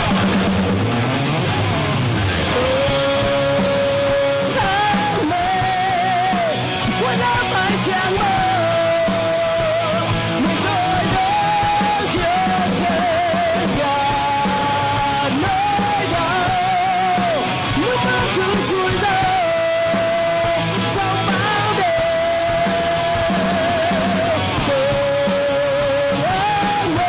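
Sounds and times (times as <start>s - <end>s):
bass guitar: 0.0s - 27.0s
drums: 0.0s - 27.0s
electric guitar bent notes: 0.0s - 27.0s.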